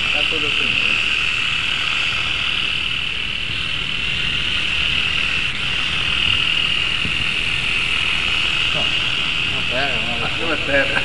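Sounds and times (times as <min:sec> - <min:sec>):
rc helicopter whine: 0:00.0 - 0:11.0.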